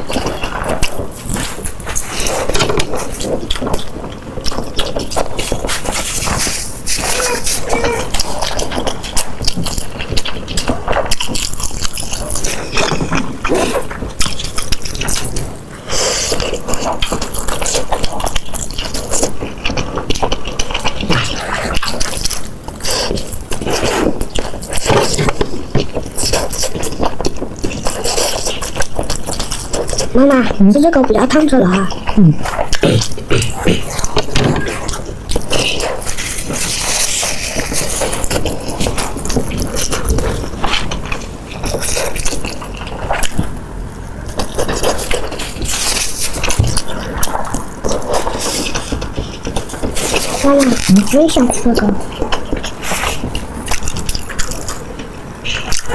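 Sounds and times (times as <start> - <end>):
chewing with crunches: 0.0 - 55.9
wet mouth noises: 0.0 - 55.9.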